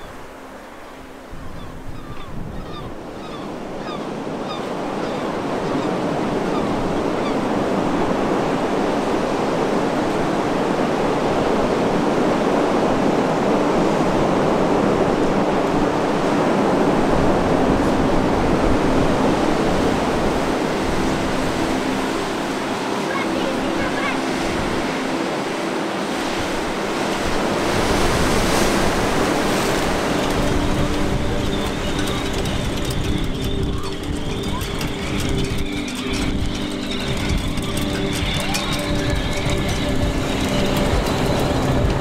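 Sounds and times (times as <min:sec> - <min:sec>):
wind: 0:00.0 - 0:42.0
surf breaking on shore: 0:02.9 - 0:42.0.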